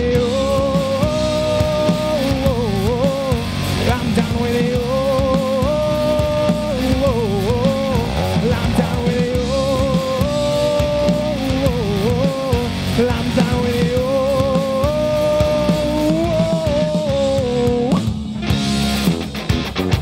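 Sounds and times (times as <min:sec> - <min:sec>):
bending melodic guitar line: 0:00.0 - 0:20.0
rock band playing live: 0:00.0 - 0:20.0.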